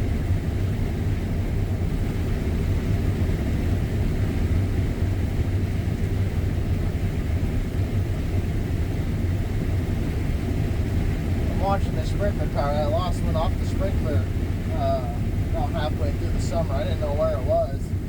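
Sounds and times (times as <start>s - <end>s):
combine harvester low drone: 0.0s - 18.0s.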